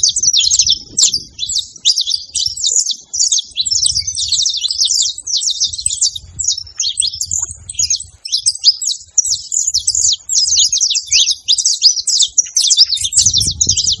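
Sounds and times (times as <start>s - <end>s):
finch singing high chirps: 0.0s - 14.0s.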